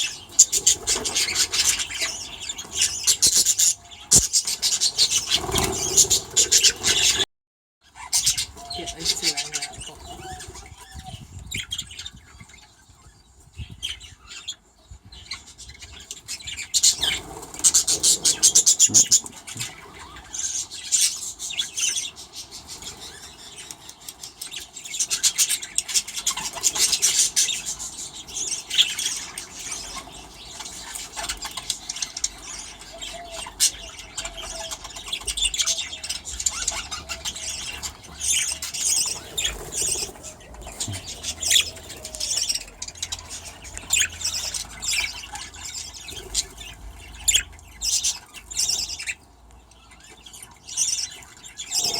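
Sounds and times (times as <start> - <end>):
budgerigars chattering and chirping: 0.0 - 7.2, 7.8 - 51.9.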